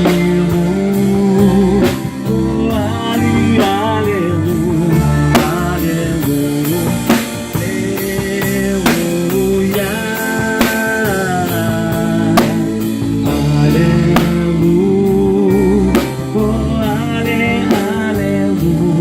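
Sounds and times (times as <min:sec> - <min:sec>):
worship band playing: 0:00.0 - 0:19.0.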